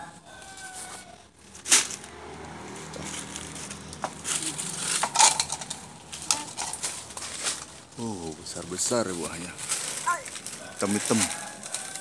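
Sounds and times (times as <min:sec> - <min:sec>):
rustling handling noise: 0:00.3 - 0:12.0.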